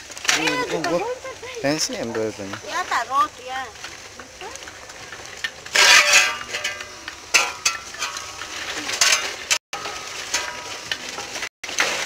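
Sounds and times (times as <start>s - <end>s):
metal shovel scraping stones and earth: 0.0s - 12.0s.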